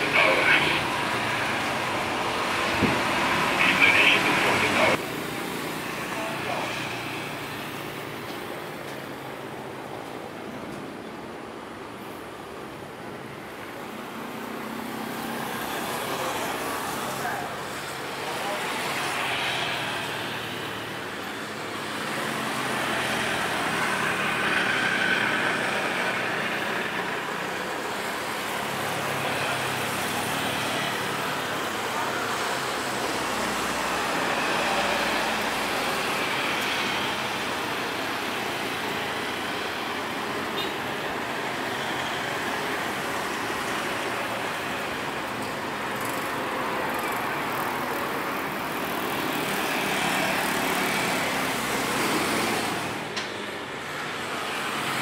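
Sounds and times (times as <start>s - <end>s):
engine noise: 0.0s - 55.0s
traffic noise: 0.0s - 55.0s.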